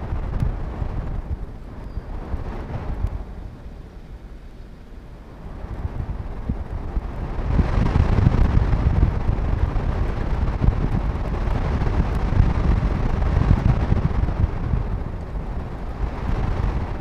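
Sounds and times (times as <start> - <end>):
storm wind gusting on microphone: 0.0 - 17.0.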